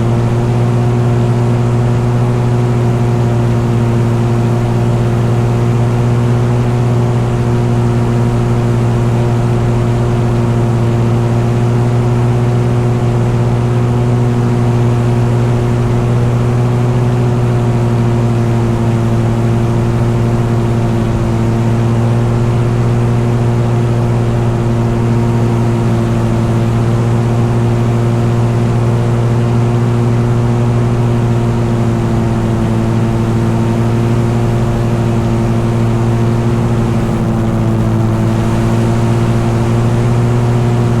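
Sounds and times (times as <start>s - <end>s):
engine droning steadily: 0.0s - 41.0s.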